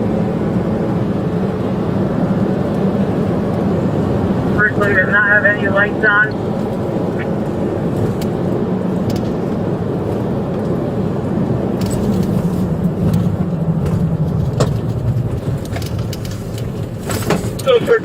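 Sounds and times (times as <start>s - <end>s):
car engine and tyre noise: 0.0s - 18.0s.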